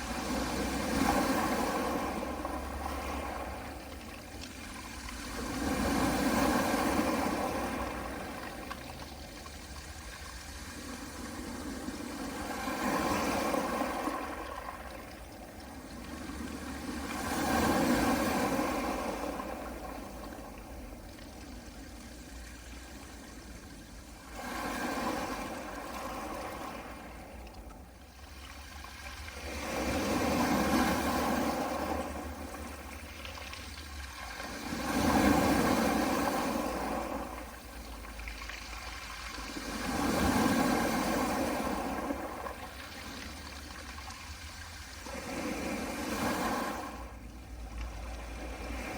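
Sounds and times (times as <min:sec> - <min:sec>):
waves washing onto pebble beach: 0:00.0 - 0:22.0, 0:22.8 - 0:27.4, 0:28.2 - 0:48.9.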